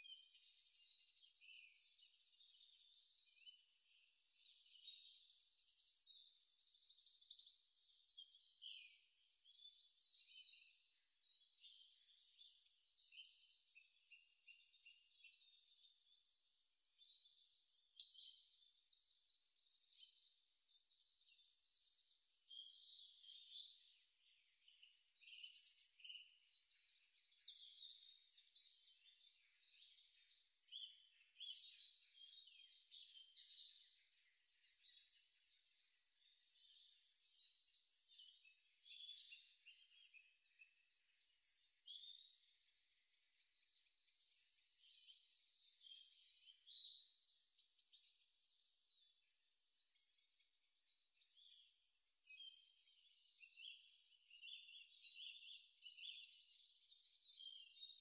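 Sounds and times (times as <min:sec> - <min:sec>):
faint high-pitched bird chirping: 0:00.0 - 0:58.0.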